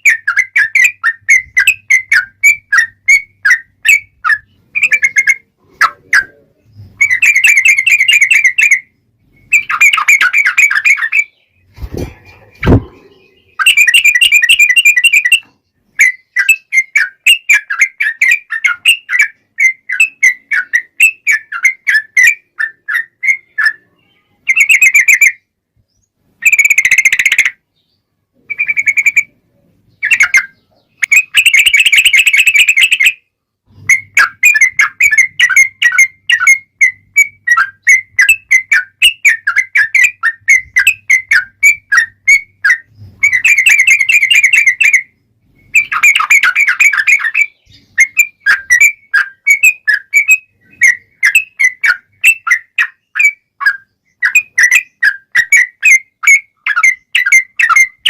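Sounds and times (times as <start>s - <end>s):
bulbul singing chattering notes: 0.0s - 11.7s, 12.4s - 25.4s, 33.9s - 58.0s.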